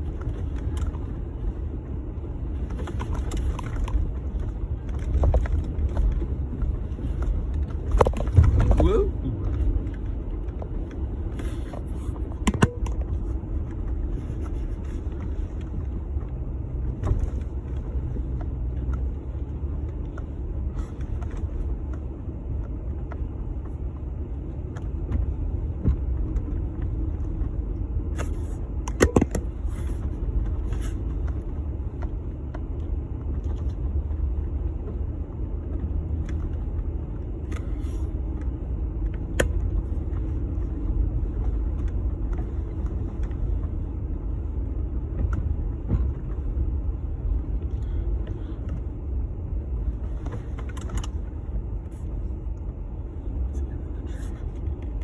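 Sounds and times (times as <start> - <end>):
engine and tyre rumble in snow: 0.0 - 55.0.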